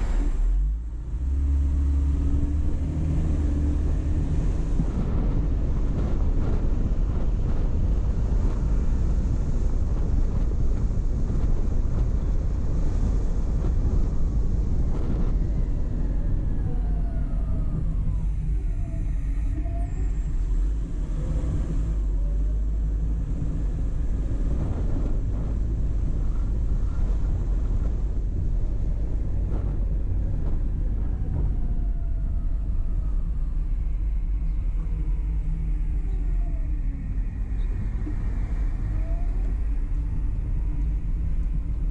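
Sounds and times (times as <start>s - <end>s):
car road and engine rumble: 0.0s - 41.9s
passing vehicles whine: 0.0s - 41.9s.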